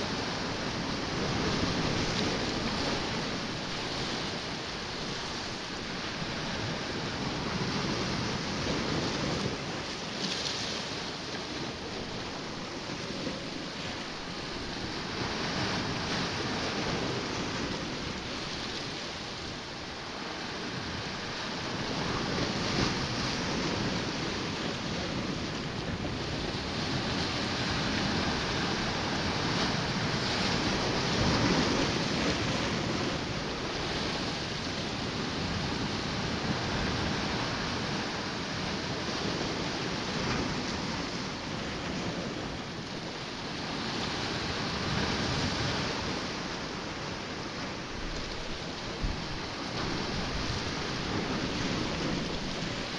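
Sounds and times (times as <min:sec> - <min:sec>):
surf washing against rocks: 0:00.0 - 0:52.9
wind: 0:00.0 - 0:52.9.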